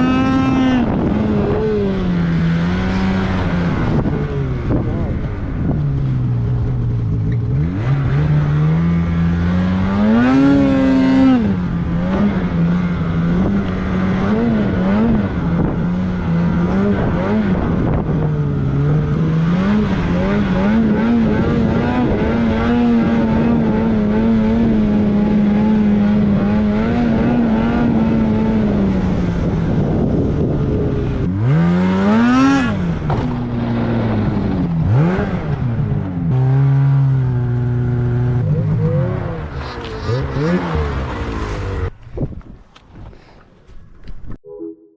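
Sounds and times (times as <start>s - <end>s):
snowmobile engine revving: 0.0s - 5.3s, 7.4s - 42.0s.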